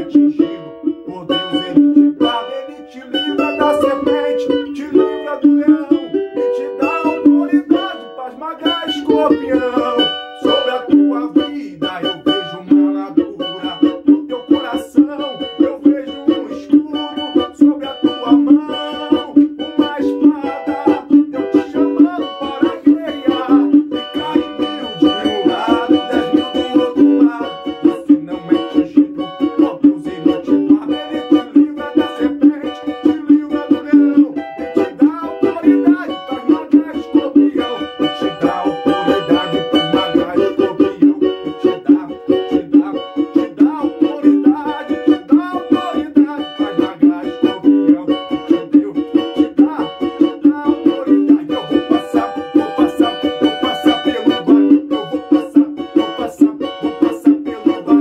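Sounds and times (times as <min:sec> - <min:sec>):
small guitar strummed fast: 0:00.0 - 0:58.0.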